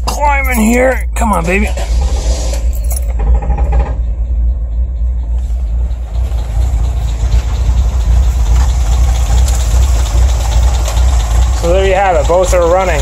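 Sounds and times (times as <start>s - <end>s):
car engine idling: 0.0s - 13.0s
engine starter cranking: 0.3s - 13.0s.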